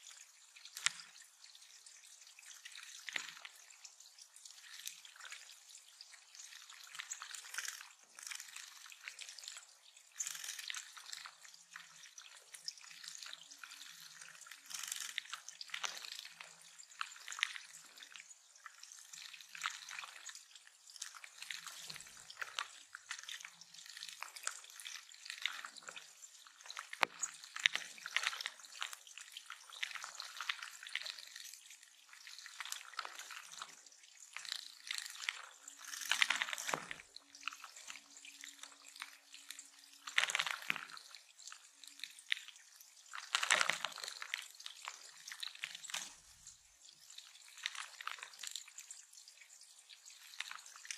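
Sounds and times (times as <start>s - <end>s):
water trickling over stones: 0.0s - 50.9s.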